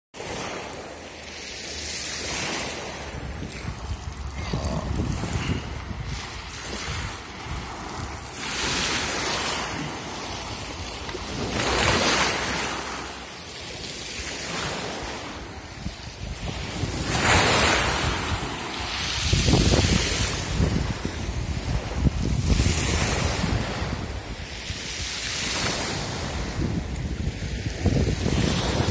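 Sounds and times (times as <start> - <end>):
waves washing on pebble beach: 0.2 - 28.9.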